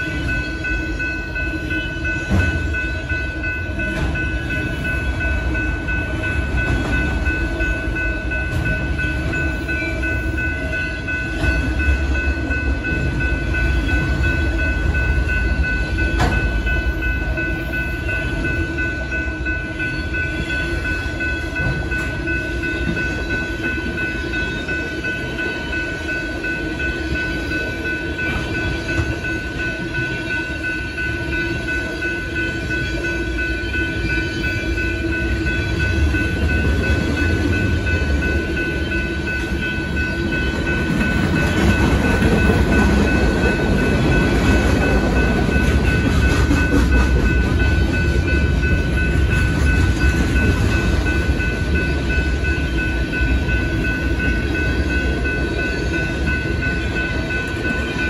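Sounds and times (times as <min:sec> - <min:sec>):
freight train wheels rumbling: 0:00.0 - 0:58.0
wheels clacking on rail: 0:00.0 - 0:58.0.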